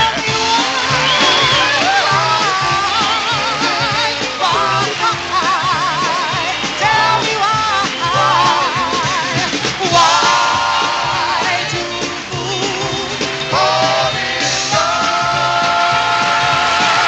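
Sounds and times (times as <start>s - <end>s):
band playing: 0.0s - 17.0s
vocal group singing in close harmony: 0.0s - 17.0s.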